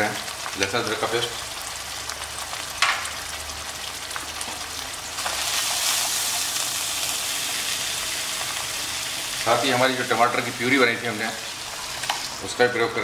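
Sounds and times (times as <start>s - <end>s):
ghee sizzling in a pan: 0.0s - 13.0s.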